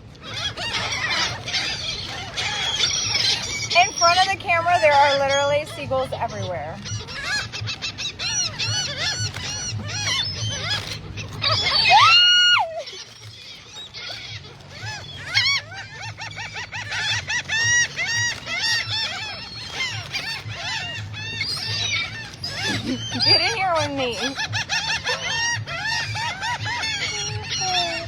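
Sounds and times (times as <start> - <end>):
loud held seagull cry: 0.0 - 28.0
seagulls calling: 0.0 - 28.0.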